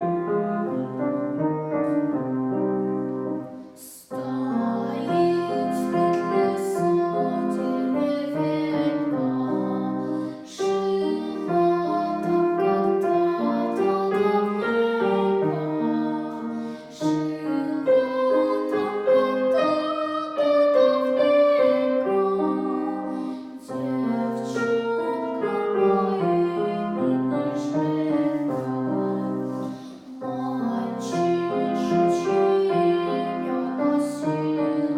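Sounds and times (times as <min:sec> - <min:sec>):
girl singing: 0:00.0 - 0:34.9
piano accompaniment: 0:00.0 - 0:34.9.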